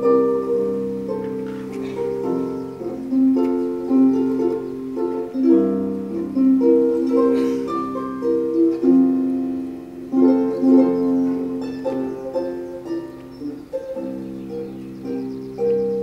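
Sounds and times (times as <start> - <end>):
plucked string instrument music: 0.0 - 16.0.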